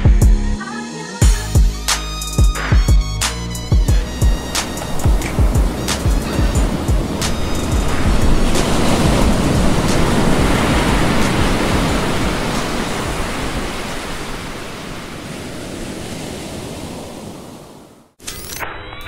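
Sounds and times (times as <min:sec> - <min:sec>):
ocean waves breaking: 0:02.6 - 0:18.2.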